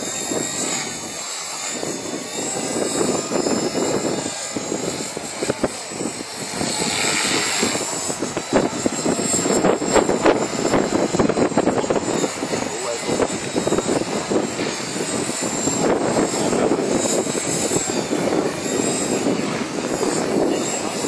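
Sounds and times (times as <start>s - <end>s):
rc helicopter motor whine: 0.0s - 21.0s
rotor blades rushing: 0.0s - 21.0s.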